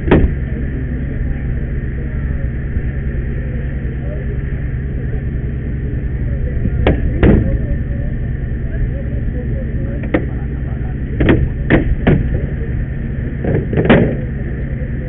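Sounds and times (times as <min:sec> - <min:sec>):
power unit engine droning: 0:00.0 - 0:15.0.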